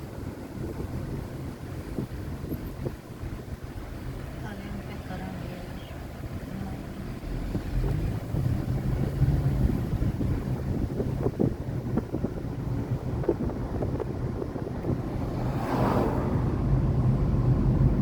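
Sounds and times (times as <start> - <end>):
engine humming: 0.0 - 18.0
wind buffeting microphone: 0.0 - 18.0.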